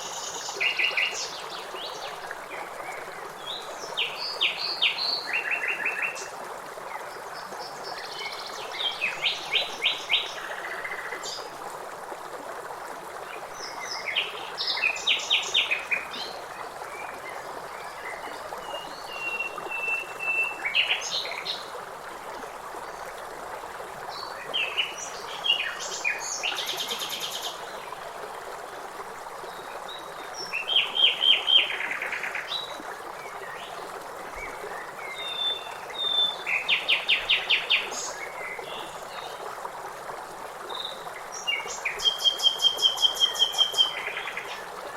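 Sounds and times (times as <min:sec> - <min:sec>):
river water flowing: 0:00.0 - 0:44.9.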